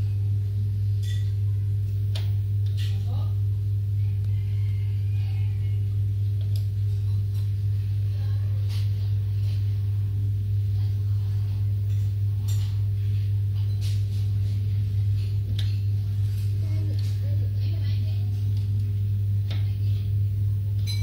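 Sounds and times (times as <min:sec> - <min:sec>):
amplifier electrical hum: 0:00.0 - 0:21.0.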